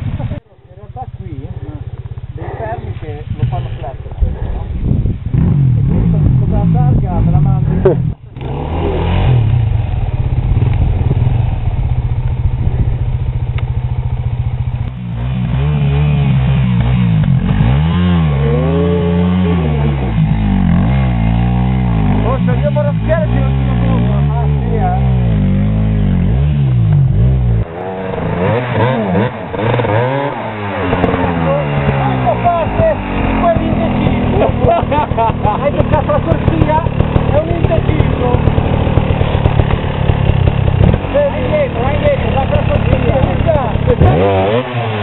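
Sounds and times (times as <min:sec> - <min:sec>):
dirt bike engine at low revs: 0:00.0 - 0:45.0.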